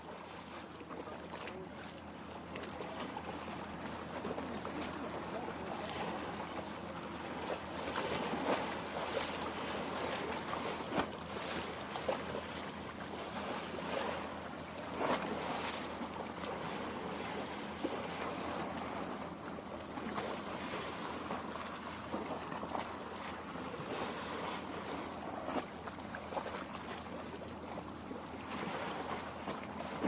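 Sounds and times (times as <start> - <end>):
small waves lapping: 0.0 - 30.0
water splashes: 0.0 - 30.0.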